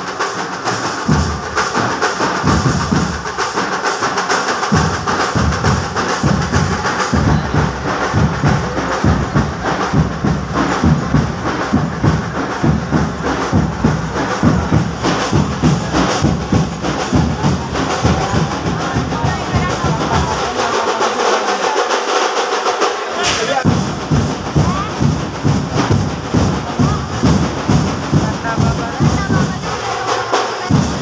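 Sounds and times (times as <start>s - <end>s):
procession drums playing: 0.0s - 31.0s.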